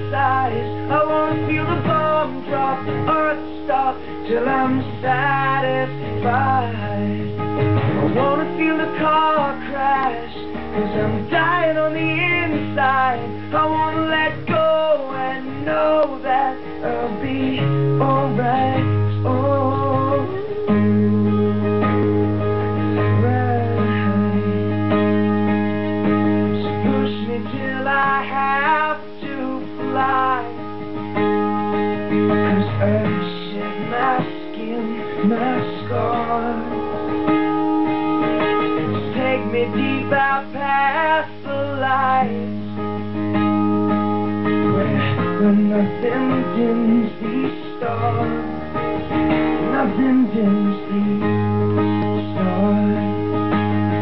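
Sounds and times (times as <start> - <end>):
man singing: 0.0 - 22.4, 23.0 - 25.3, 26.0 - 30.8, 32.3 - 37.5, 38.2 - 42.8, 44.5 - 54.0
acoustic guitar strumming: 0.0 - 54.0.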